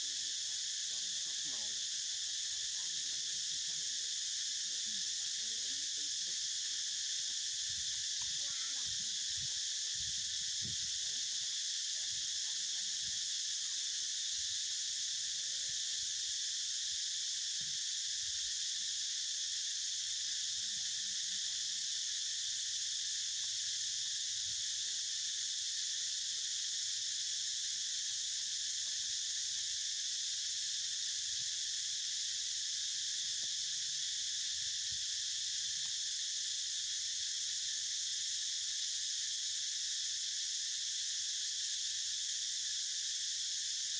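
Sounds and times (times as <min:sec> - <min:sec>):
insects chorus: 0:00.0 - 0:43.9.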